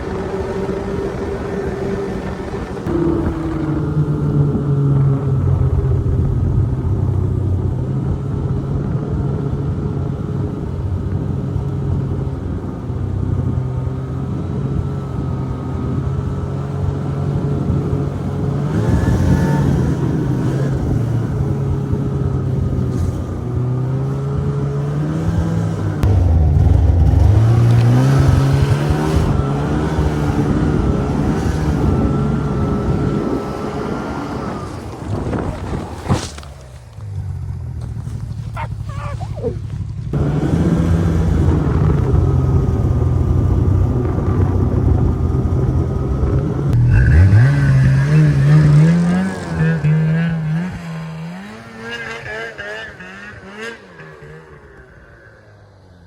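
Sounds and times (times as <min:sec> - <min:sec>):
snowmobile engine revving: 0:00.0 - 0:55.5.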